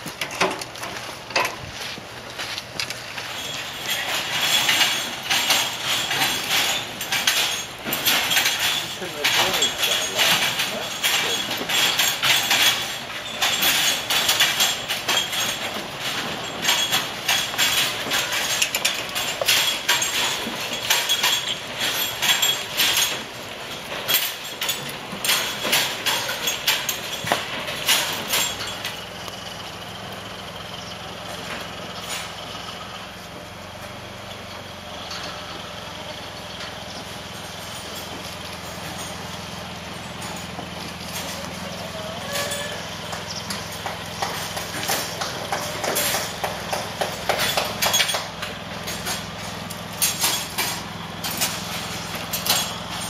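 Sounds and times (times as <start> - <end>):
goat hooves clicking: 0.0 - 30.5, 36.6 - 53.0.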